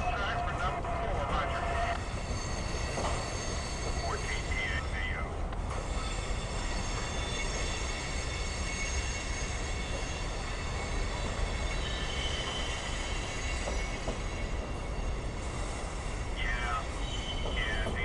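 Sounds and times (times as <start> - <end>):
freight train wheels rumbling: 0.0 - 18.0
high wheel squeal: 1.6 - 5.0, 5.7 - 18.0.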